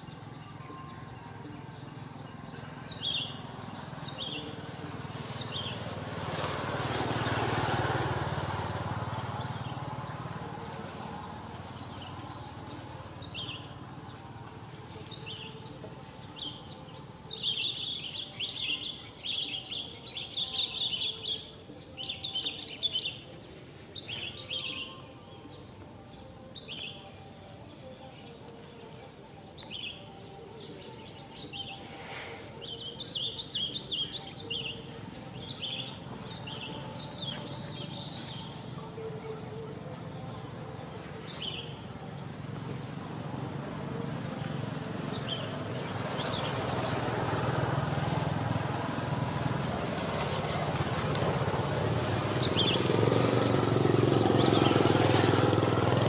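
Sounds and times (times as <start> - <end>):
birds chirping: 0.0 - 56.0
rush of passing noise: 2.0 - 25.0, 31.6 - 56.0.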